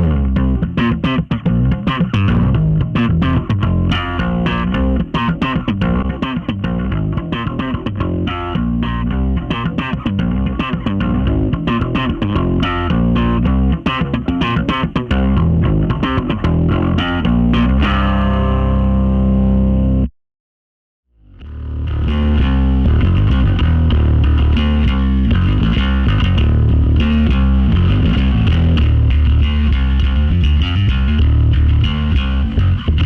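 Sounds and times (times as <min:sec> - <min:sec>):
electric bass guitar plucking: 0:00.0 - 0:20.1, 0:21.2 - 0:33.0.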